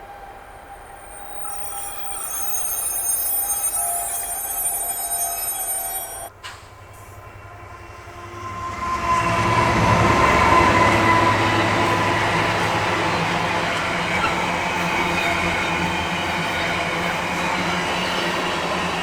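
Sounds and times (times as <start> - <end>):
diesel locomotive passing: 0.0 - 19.0.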